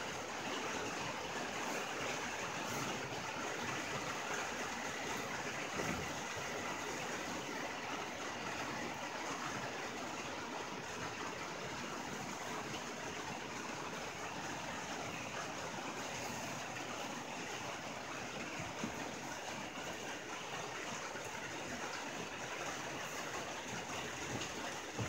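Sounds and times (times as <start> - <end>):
rain on a tin roof: 0.0 - 25.0.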